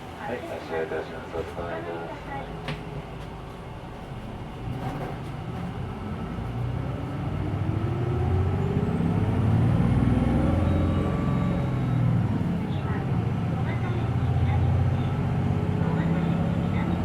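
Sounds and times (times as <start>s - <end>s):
bus drivetrain whine: 0.0s - 17.0s
bus engine: 0.0s - 17.0s.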